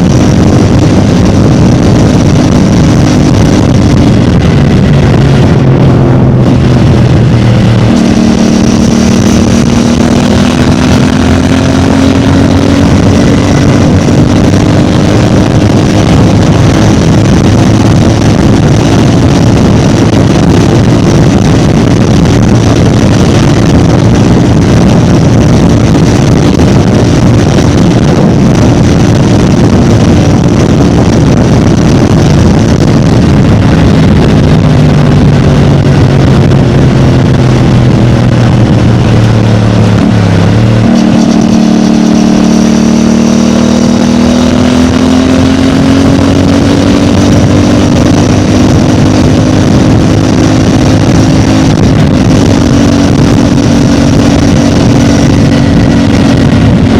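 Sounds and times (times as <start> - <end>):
motorcycle engine running: 0.0 - 56.9
rush of wind noise: 0.0 - 56.9.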